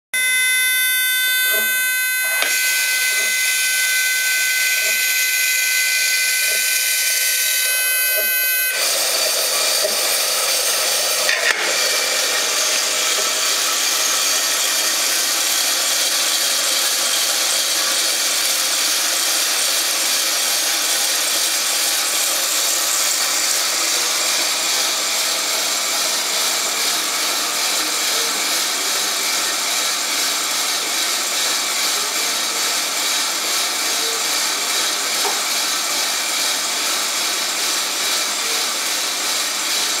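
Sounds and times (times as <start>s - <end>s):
coffee roaster drum with tumbling beans: 0.2s - 40.0s.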